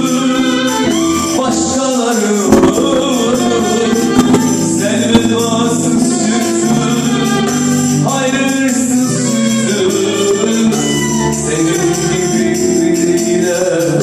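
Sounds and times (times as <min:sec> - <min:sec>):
keyboard: 0:00.0 - 0:14.0
light percussion: 0:00.0 - 0:14.0
man singing into a microphone: 0:00.0 - 0:14.0
violin: 0:00.0 - 0:14.0.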